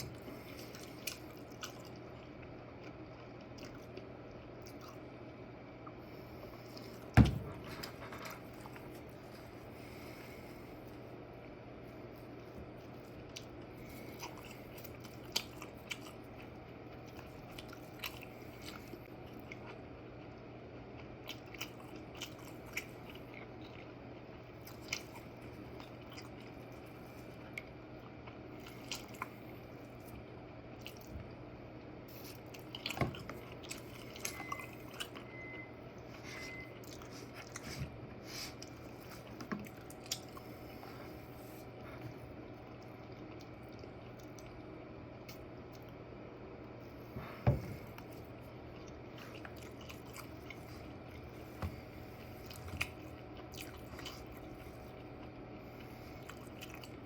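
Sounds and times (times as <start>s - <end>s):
person chewing toast: 0.0s - 31.4s, 32.0s - 35.4s, 36.0s - 37.6s, 38.4s - 46.0s, 47.0s - 57.0s.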